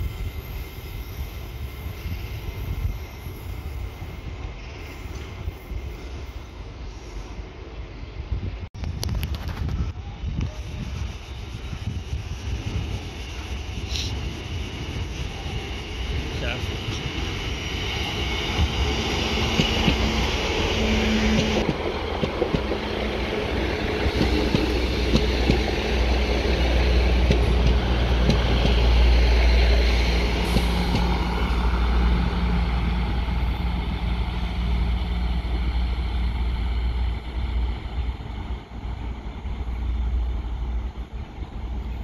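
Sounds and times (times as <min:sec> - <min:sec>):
diesel locomotive engine rumbling: 0:00.0 - 0:42.0.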